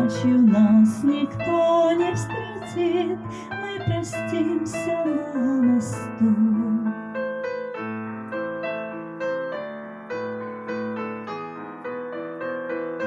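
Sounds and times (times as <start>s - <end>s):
piano-style keyboard playing: 0.0s - 13.0s.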